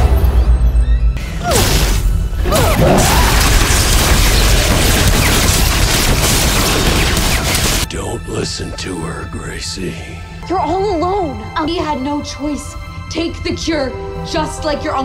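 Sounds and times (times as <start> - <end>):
dramatic orchestral score: 0.0 - 15.0.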